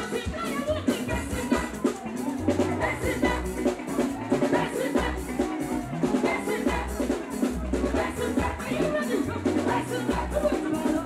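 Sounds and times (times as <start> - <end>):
bass: 0.0 - 11.0
drum kit beat: 0.0 - 11.0
lead singer singing: 0.0 - 11.0
live gospel band playing: 0.0 - 11.0.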